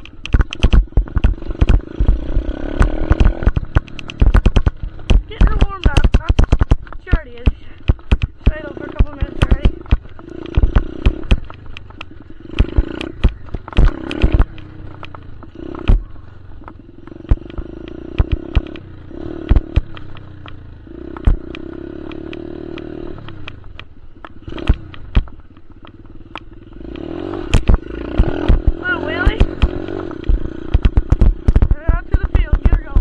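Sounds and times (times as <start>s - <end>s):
dirt bike engine revving: 0.0s - 33.0s
sharp knocks and clicks: 0.0s - 33.0s.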